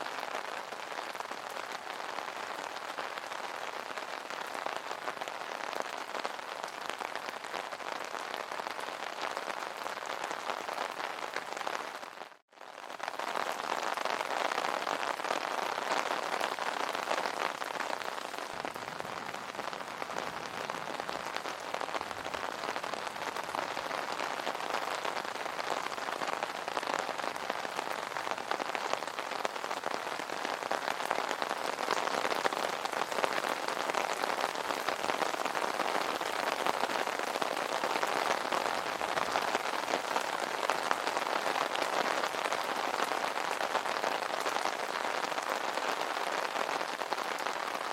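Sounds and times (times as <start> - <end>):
rain on an umbrella: 0.0 - 47.9.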